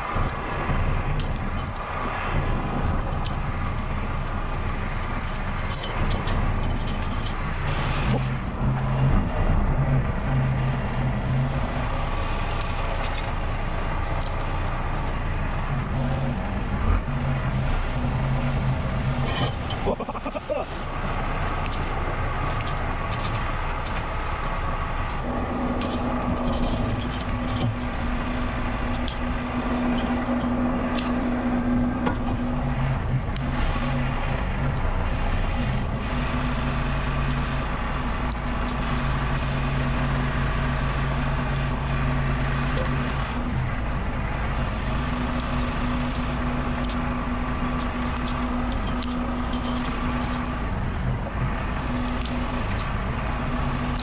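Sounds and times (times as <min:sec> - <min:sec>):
heavy diesel engine running: 0:00.0 - 0:54.0
pitched hum: 0:00.0 - 0:54.0.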